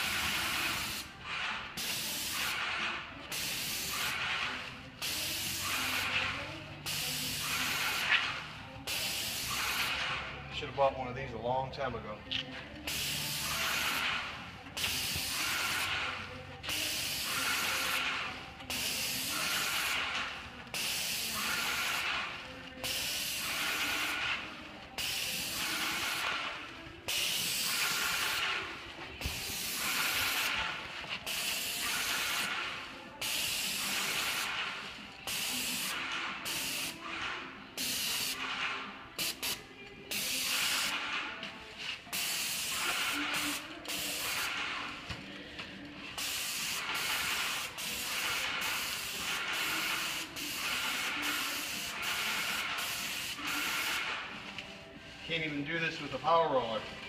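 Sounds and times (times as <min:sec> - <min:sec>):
paint roller hissing: 0:00.0 - 0:10.4, 0:12.9 - 0:37.0, 0:39.2 - 0:41.1, 0:41.7 - 0:45.5, 0:46.1 - 0:57.0.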